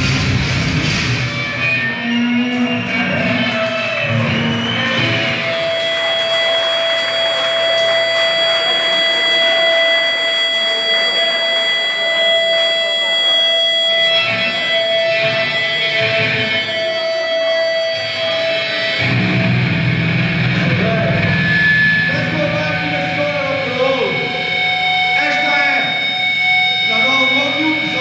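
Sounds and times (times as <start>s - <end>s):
heavy low notes: 0.0s - 6.1s, 7.0s - 28.0s
electric guitar through amplifier: 0.0s - 28.0s.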